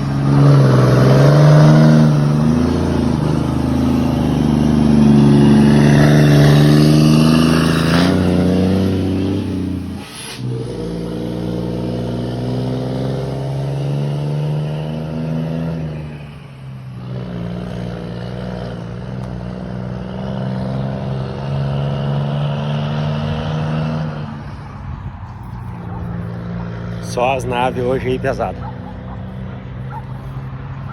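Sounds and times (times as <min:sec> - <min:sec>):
truck engine rumbling: 0:00.0 - 0:30.9.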